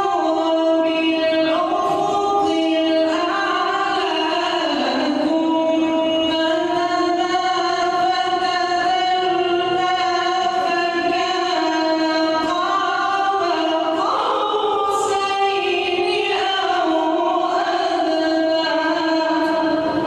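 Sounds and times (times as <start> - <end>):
person chanting recitation: 0.0 - 20.0.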